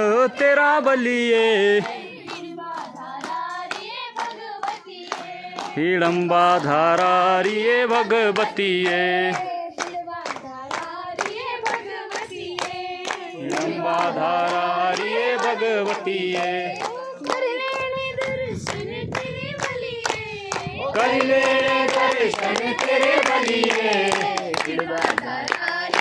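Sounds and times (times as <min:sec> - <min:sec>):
group of young voices singing: 0:00.0 - 0:26.0
rhythmic hand-clapping: 0:00.0 - 0:26.0.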